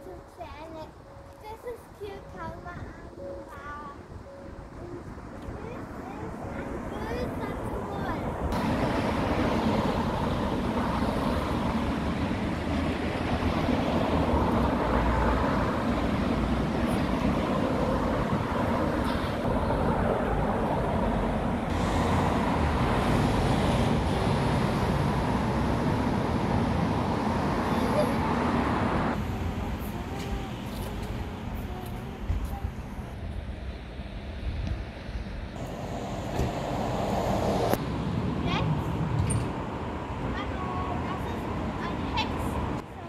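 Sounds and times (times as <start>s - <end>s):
road traffic rushing: 0.0s - 43.0s.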